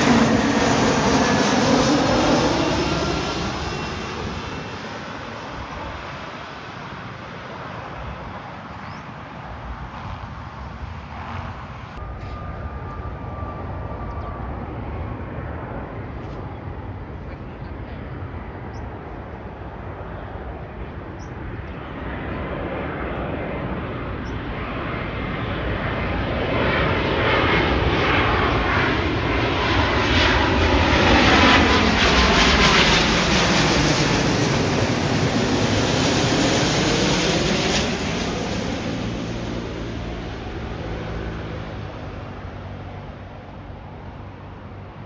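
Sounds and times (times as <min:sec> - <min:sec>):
jet airliner flying past: 0:00.0 - 0:45.0.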